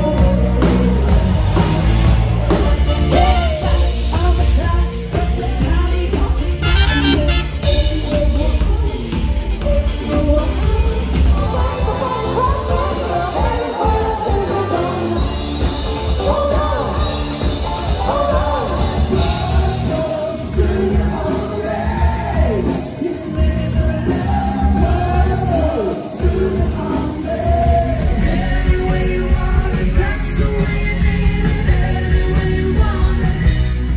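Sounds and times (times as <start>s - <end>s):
lead singer singing: 0.0s - 33.9s
rock band playing live: 0.0s - 33.9s.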